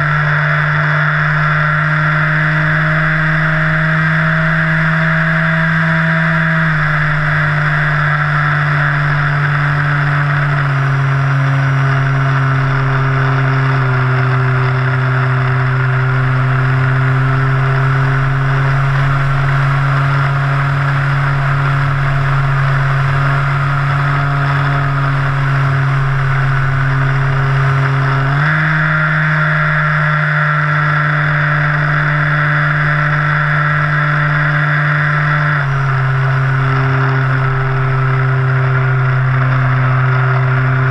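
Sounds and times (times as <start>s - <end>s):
electric motor droning whine: 0.0s - 40.9s.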